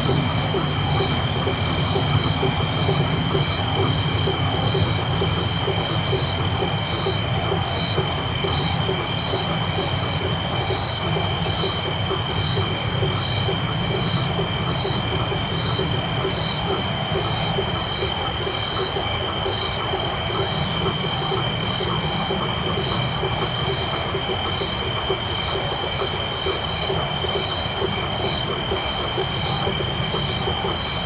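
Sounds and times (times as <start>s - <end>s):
low frog-like pulsing: 0.0s - 31.0s.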